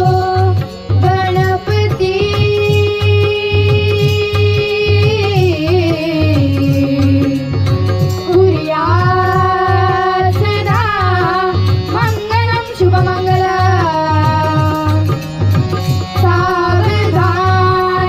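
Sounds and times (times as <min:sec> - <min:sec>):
boy singing in high voice: 0:00.0 - 0:15.2, 0:16.2 - 0:18.0.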